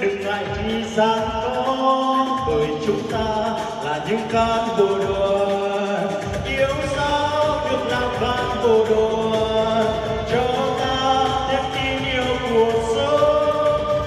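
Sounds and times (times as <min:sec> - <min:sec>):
backing music: 0:00.0 - 0:14.0
man singing into a microphone: 0:00.0 - 0:14.0.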